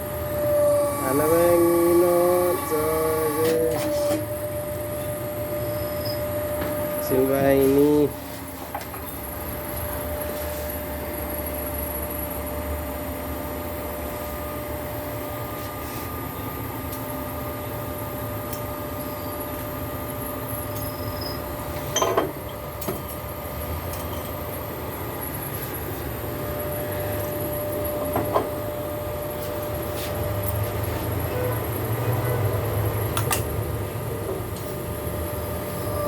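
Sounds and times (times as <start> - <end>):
workshop machine humming: 0.0 - 36.0.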